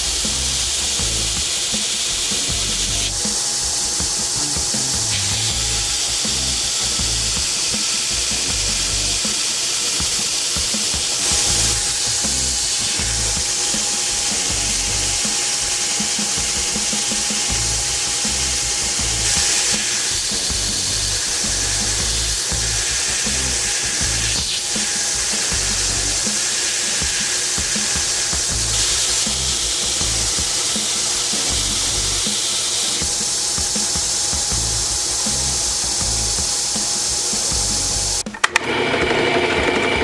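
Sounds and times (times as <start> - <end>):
power grinder on steel: 0.0 - 40.0.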